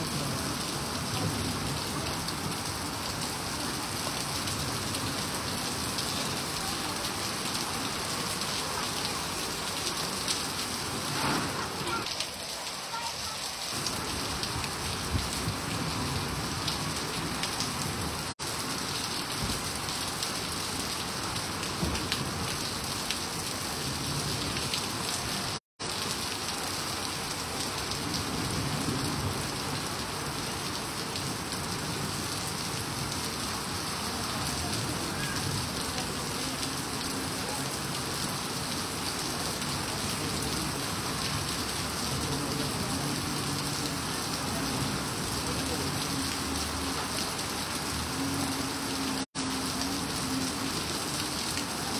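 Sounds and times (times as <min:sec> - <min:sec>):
heavy rain on pavement: 0:00.0 - 0:51.9.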